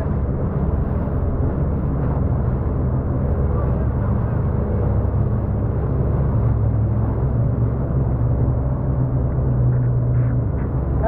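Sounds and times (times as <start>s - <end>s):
jet ski engine drone: 0.0s - 11.0s.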